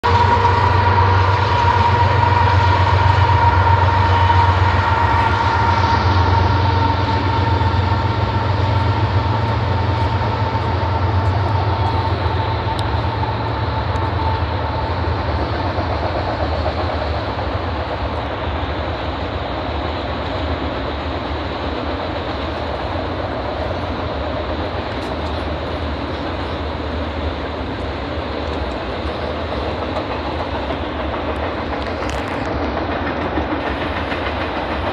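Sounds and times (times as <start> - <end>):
freight train rumbling: 0.0 - 34.9.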